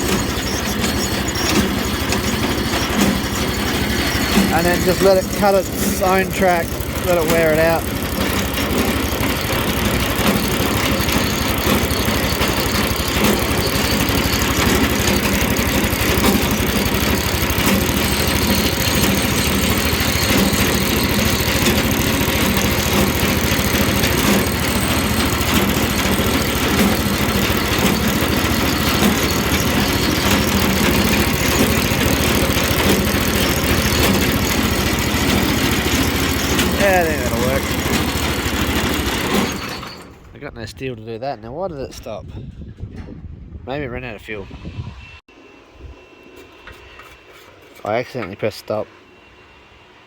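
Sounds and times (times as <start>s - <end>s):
small engine running: 0.0s - 40.3s.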